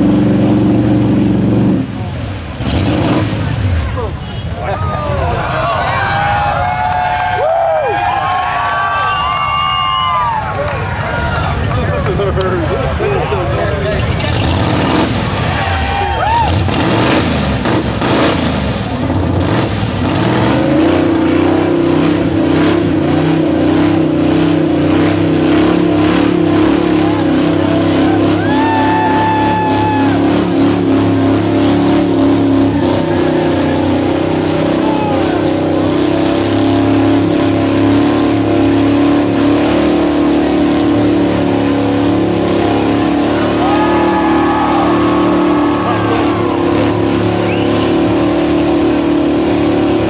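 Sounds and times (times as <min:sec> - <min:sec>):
truck engine revving high: 0:00.0 - 0:50.0
tyres churning in mud: 0:00.0 - 0:50.0.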